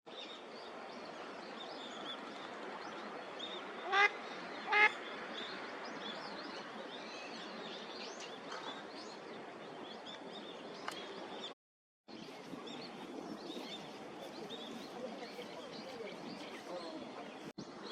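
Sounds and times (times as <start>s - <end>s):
small birds chirping: 0.1s - 17.9s.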